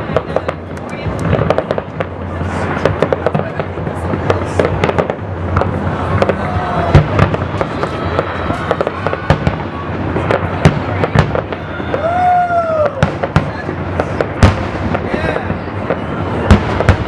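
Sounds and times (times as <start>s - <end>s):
crackling rumble: 0.0s - 17.0s
fireworks bangs: 0.0s - 17.0s.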